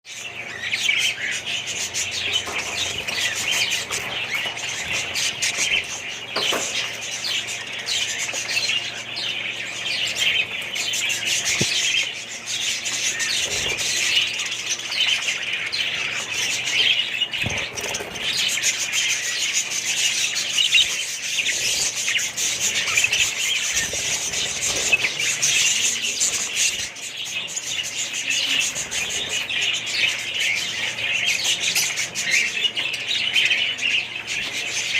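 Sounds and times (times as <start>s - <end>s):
small birds chirping and squawking: 0.0s - 34.9s.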